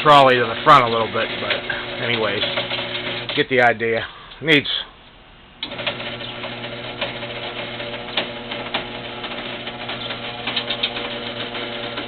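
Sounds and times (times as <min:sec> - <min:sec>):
garage door motor humming: 0:00.0 - 0:03.8, 0:05.5 - 0:12.0.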